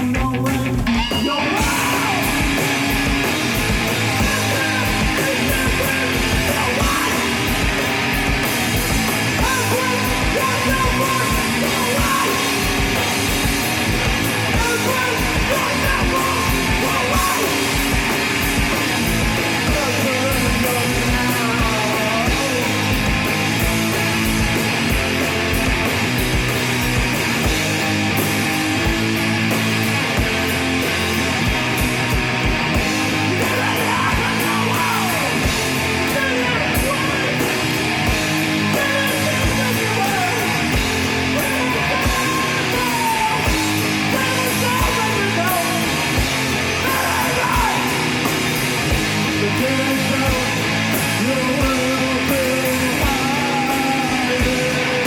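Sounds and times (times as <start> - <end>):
shouted or sung vocals: 0.0 - 23.3, 32.0 - 55.0
heavy rock guitar: 0.0 - 55.0
steady drum beat: 0.0 - 55.0.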